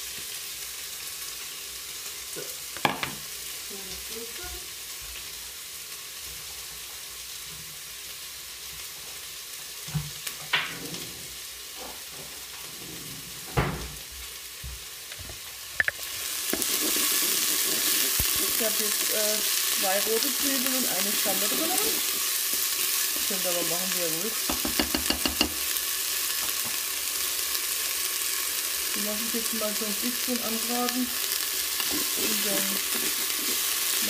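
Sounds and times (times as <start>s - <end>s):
frying sizzle in hot oil: 0.0s - 34.0s.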